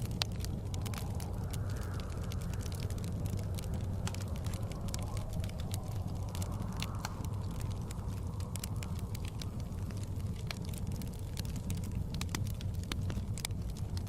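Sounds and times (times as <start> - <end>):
log fire crackling and popping: 0.0 - 14.0
low rumble of blizzard wind: 0.0 - 14.0.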